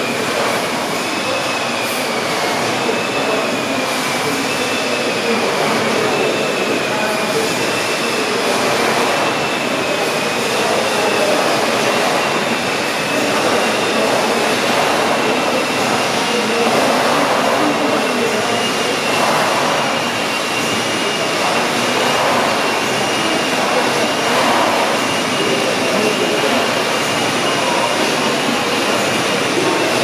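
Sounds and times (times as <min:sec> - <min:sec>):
steam engine rushing: 0:00.0 - 0:30.0.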